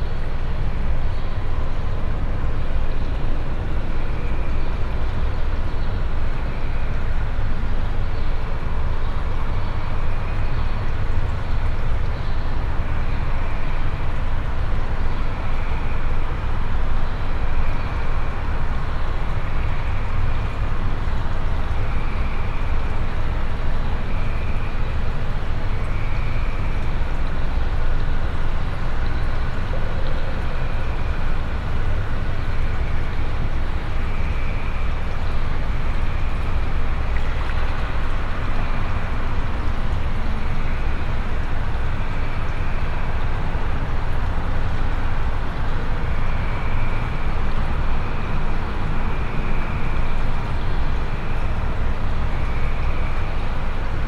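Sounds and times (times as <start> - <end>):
low rumbling noise music drone: 0.0 - 54.0.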